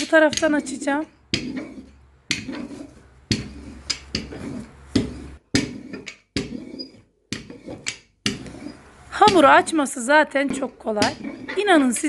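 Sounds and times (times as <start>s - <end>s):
rolling pin rumbling over dough: 0.0s - 12.0s.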